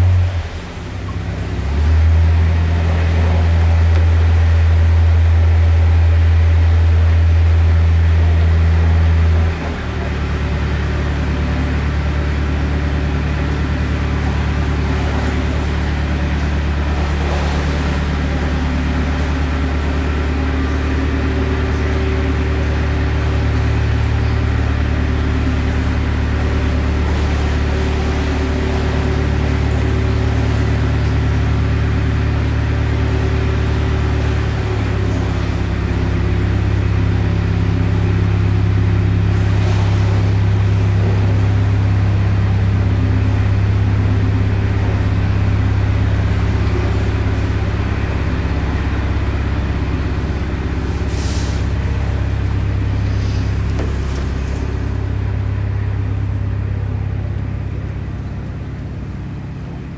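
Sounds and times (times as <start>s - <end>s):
diesel boat engine droning: 0.0s - 59.9s.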